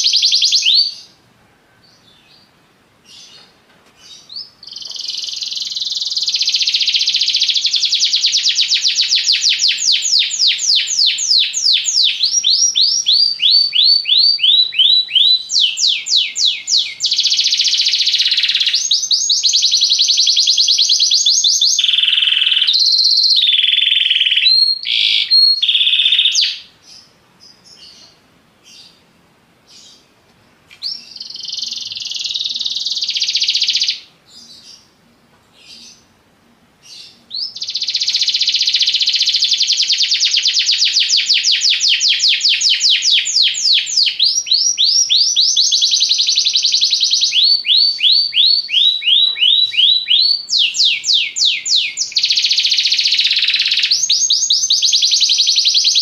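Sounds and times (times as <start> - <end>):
canary singing trills: 0.0 - 1.2, 1.8 - 29.0, 30.7 - 35.0, 36.8 - 56.0.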